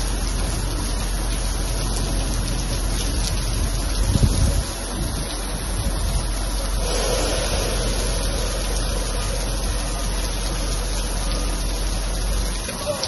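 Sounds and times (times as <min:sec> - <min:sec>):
low rumble: 0:00.0 - 0:12.8
rain falling: 0:00.0 - 0:13.0.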